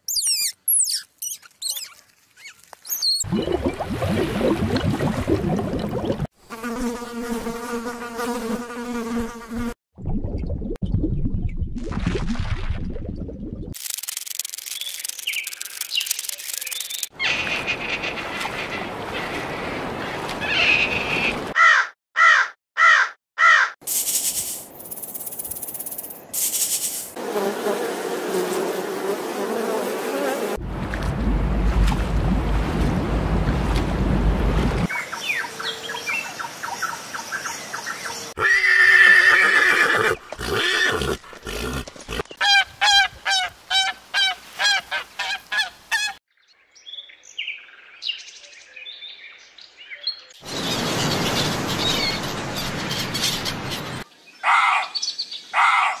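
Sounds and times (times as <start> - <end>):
nature sounds: 0.0 - 9.5, 13.8 - 56.0.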